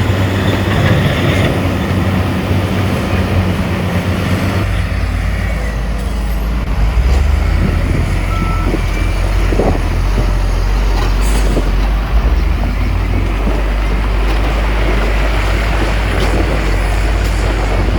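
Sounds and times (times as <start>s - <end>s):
heavy diesel machinery droning: 0.0s - 17.9s.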